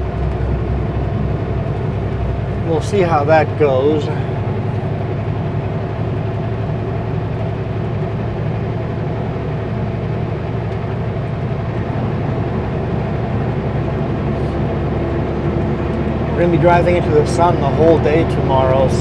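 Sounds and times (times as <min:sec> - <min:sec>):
road noise: 0:00.0 - 0:19.0
truck diesel engine running: 0:00.0 - 0:19.0.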